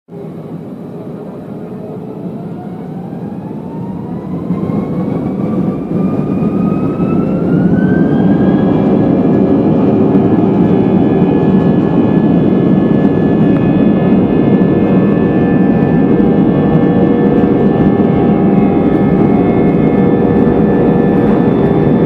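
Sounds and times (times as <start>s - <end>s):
jet engines spooling up: 0.2s - 22.0s.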